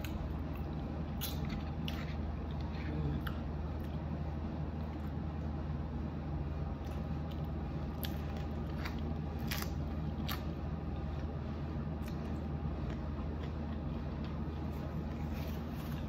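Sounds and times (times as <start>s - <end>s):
chewing with crunches: 0.0s - 5.3s, 6.8s - 16.0s
steady low hum: 0.0s - 16.0s.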